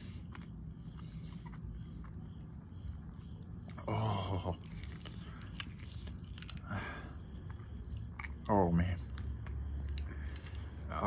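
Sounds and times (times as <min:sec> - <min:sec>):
chewing mouth sounds: 0:00.0 - 0:08.5, 0:09.1 - 0:11.0
low hum: 0:00.0 - 0:11.0.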